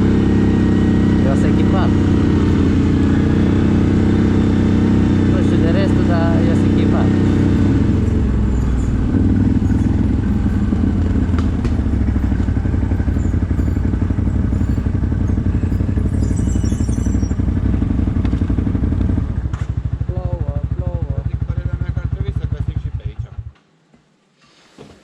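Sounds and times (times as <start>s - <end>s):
atv engine running: 0.0s - 23.6s.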